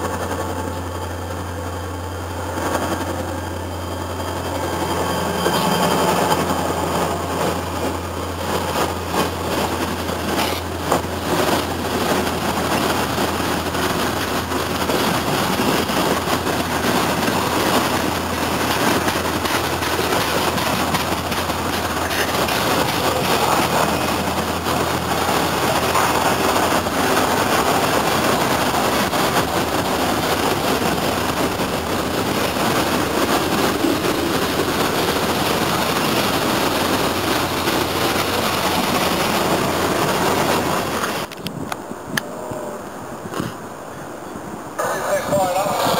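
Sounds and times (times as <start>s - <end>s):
low engine drone: 0.0s - 45.9s
train wheels on rails: 0.0s - 45.9s.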